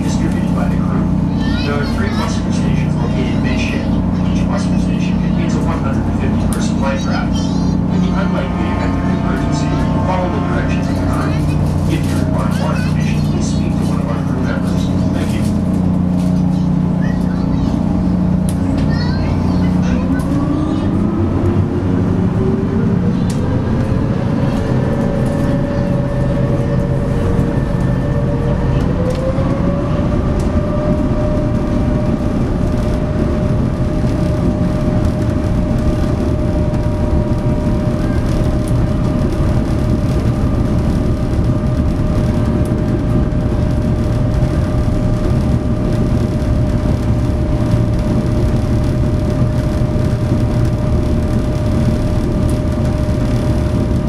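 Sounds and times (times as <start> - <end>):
ferry engines rumbling and whining: 0.0 - 54.0.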